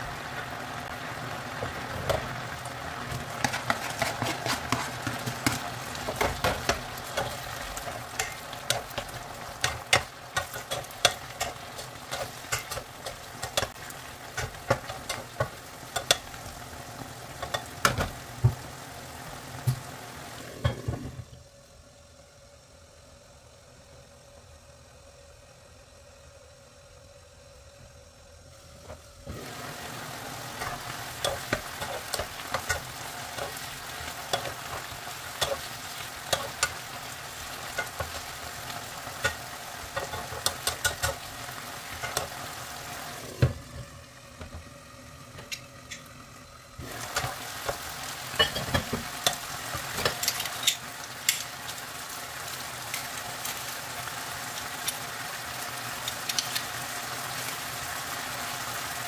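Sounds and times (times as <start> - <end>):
chicken sizzling in a pan: 0.0 - 21.7, 28.5 - 59.0.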